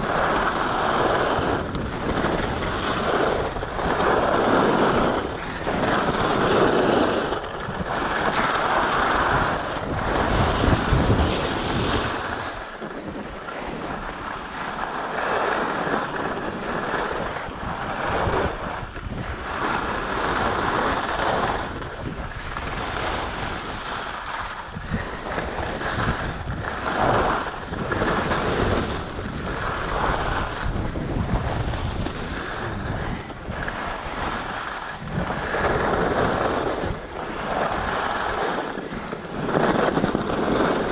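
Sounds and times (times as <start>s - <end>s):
skis scraping on snow: 0.0s - 40.9s
wind rushing over microphone: 0.0s - 40.9s.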